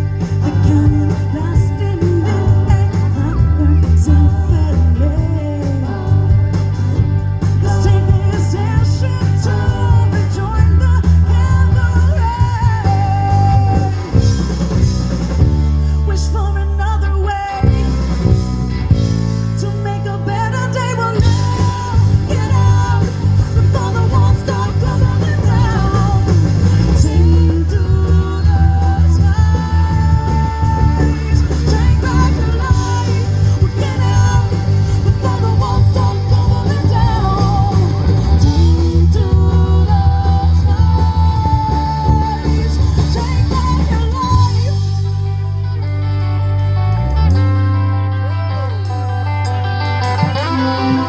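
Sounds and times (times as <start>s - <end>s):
person singing: 0.0s - 14.8s, 19.6s - 45.9s
rock band playing live: 0.0s - 51.0s.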